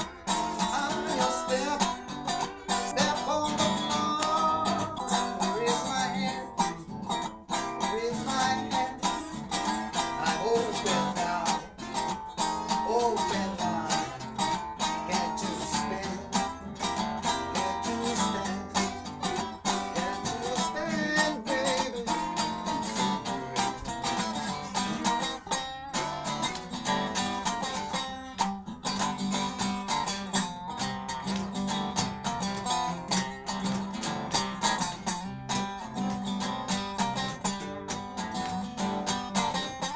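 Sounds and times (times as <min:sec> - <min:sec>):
blues band playing: 0:00.0 - 0:39.9
electric guitar: 0:00.0 - 0:39.9.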